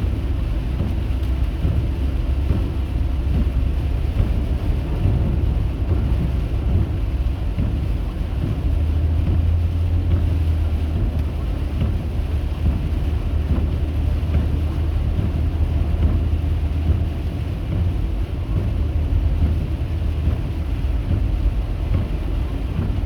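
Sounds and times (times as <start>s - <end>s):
car engine drone inside cabin: 0.0s - 23.0s
road and wind noise: 0.0s - 23.0s.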